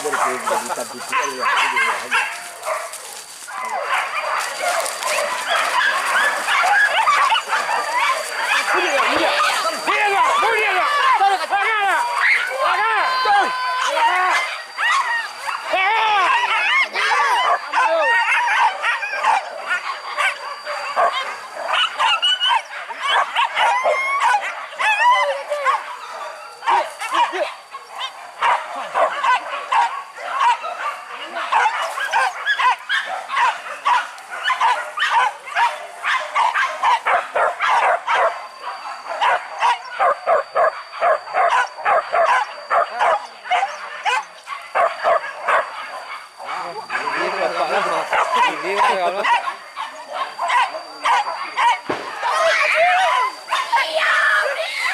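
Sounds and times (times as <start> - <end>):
dogs yelping and barking: 0.0 - 54.9.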